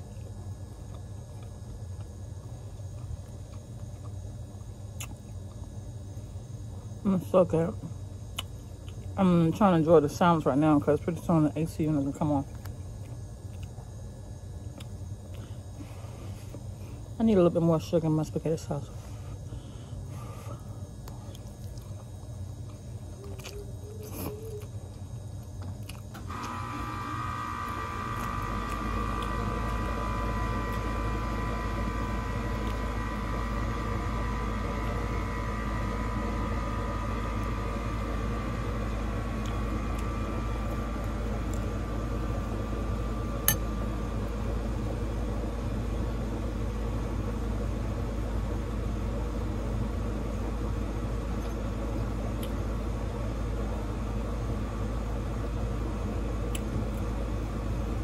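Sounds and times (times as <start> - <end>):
air conditioner humming: 0.0 - 58.0.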